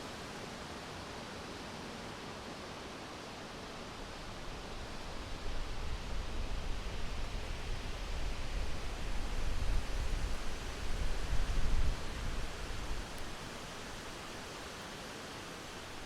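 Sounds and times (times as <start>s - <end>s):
wind rustling tree leaves: 0.0s - 16.0s.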